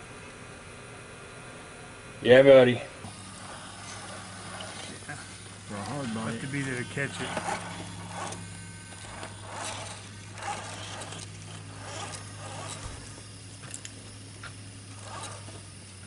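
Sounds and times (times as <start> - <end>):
small electric motor whirring: 1.0 - 16.0
tyres scraping on wooden boards: 3.1 - 16.0.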